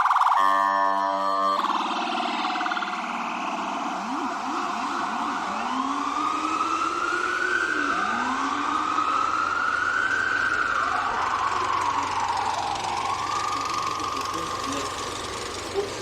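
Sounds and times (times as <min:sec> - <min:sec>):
city street noise: 0:00.0 - 0:16.0
emergency vehicle siren: 0:00.0 - 0:16.0.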